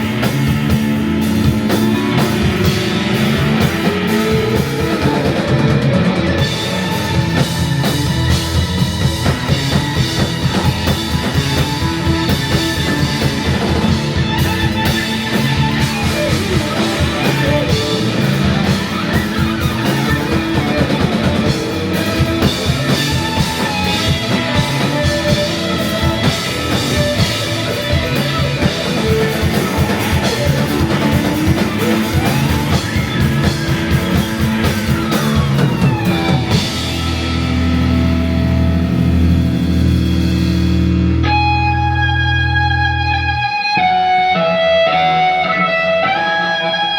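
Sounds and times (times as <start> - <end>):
drum kit: 0.0 - 46.9
electric violin: 0.0 - 46.9
rock band playing: 0.0 - 46.9.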